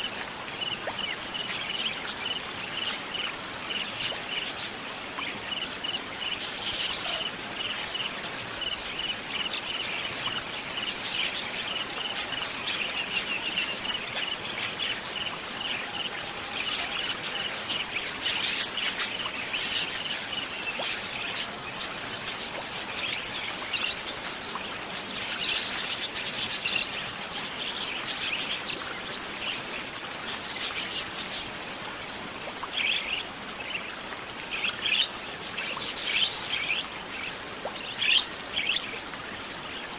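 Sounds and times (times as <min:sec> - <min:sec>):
nature ambience hiss: 0:00.0 - 0:39.9
small songbirds chirping: 0:00.0 - 0:39.9.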